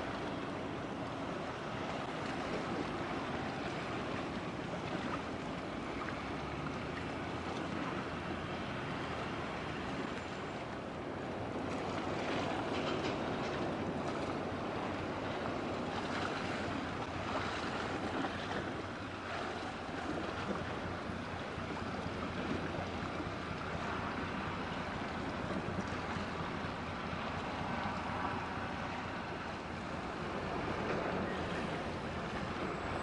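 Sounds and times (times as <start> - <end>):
sea water washing: 0.0 - 33.0.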